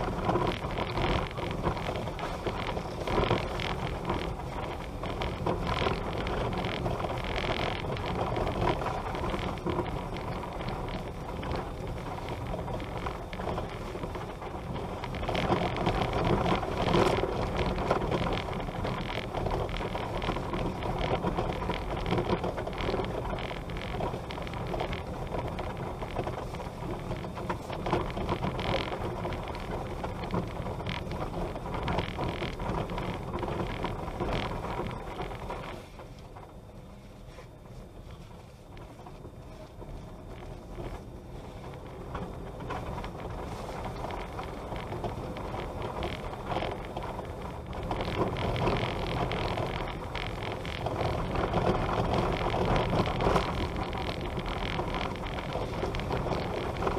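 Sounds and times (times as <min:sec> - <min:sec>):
car engine: 0:00.0 - 0:56.9
tyres on gravel road: 0:00.0 - 0:56.9.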